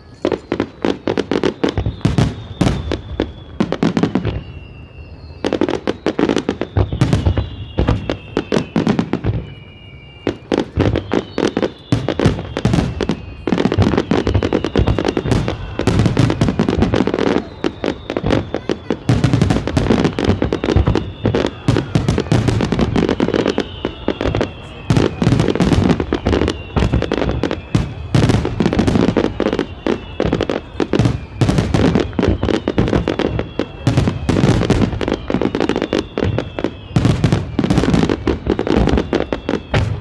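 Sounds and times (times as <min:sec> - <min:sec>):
fireworks bursting with sharp bangs: 0:00.0 - 0:40.0.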